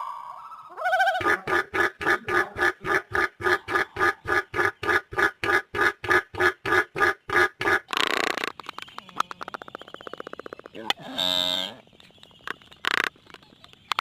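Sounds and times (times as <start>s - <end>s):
bird calling nasal notes: 0.0s - 14.0s.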